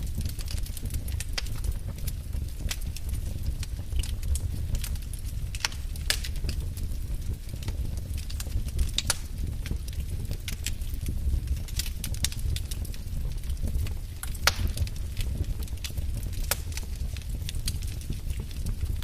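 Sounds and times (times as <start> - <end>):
low rumble of flame: 0.0 - 19.0
sharp pops of fire: 0.0 - 19.0
wood fire crackling: 0.0 - 19.0.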